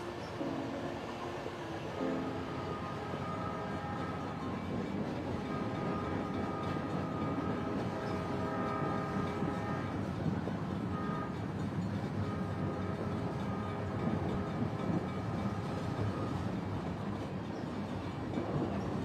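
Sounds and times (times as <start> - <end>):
train horn: 0.0 - 16.9
moving train rumble: 0.0 - 19.0.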